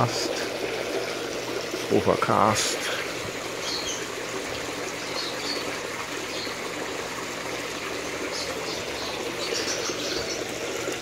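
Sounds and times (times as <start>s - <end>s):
fountain water splashing into pond: 0.0s - 11.0s.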